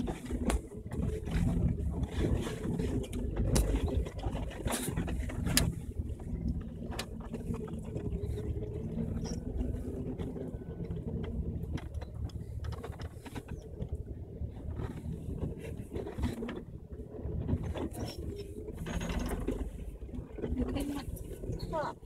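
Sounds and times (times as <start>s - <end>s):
car engine running at low revs: 0.0s - 22.0s
vehicle knocks and clicks: 0.0s - 22.0s.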